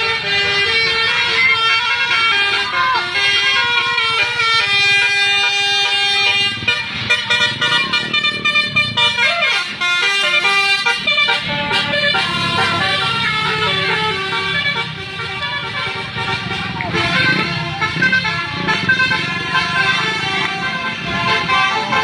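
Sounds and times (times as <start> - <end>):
bus engine running: 0.0 - 22.0
multi-tone bus horn playing a tune: 0.0 - 22.0.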